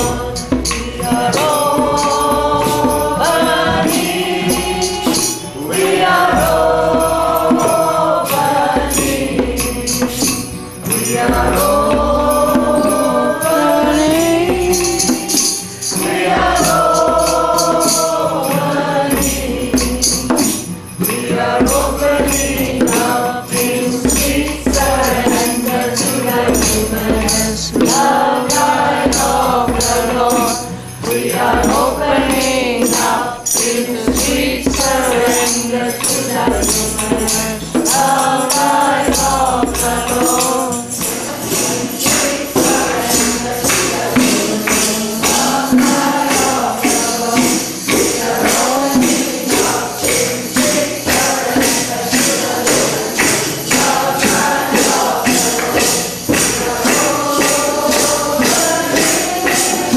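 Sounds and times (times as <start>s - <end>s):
group singing a devotional chant: 0.0s - 59.9s
tambourine jingling: 0.0s - 59.9s.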